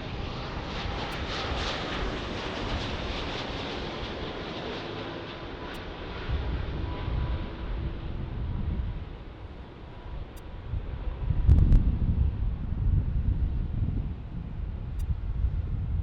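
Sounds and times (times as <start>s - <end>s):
jet engines passing: 0.0s - 16.0s
wind buffeting microphone: 0.0s - 16.0s.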